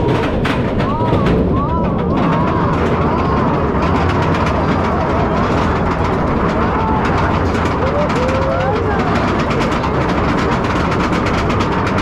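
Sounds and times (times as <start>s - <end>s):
lift chain rumbling and clicking: 0.0s - 12.0s.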